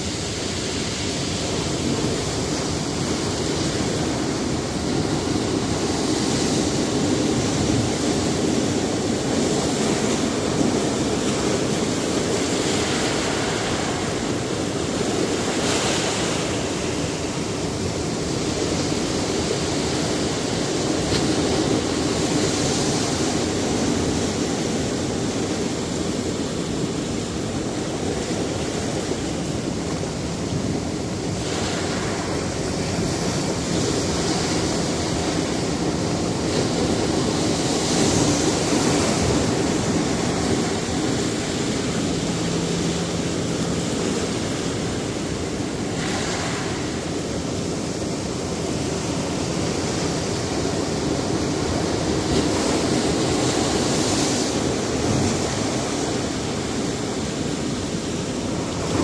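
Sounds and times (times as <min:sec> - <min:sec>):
waves on rocky shore: 0:00.0 - 0:59.0.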